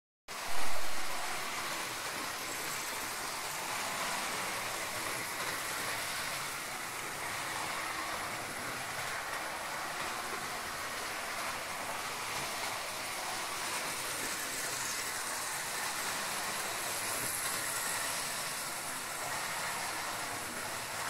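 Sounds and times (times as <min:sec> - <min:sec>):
model train whirring on track: 0:00.3 - 0:21.0.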